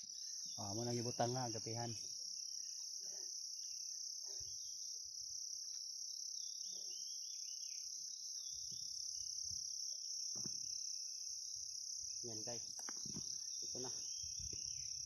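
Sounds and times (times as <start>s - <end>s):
insect chorus trilling: 0.0s - 15.0s.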